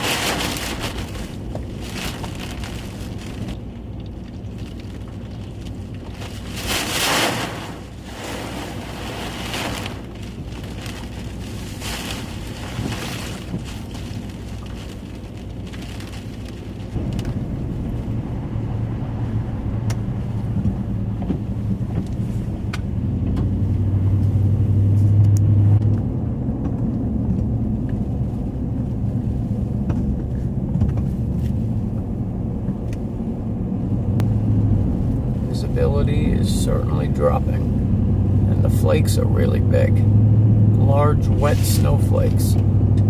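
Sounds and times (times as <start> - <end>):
vehicle engine and tyre noise: 0.0 - 43.0.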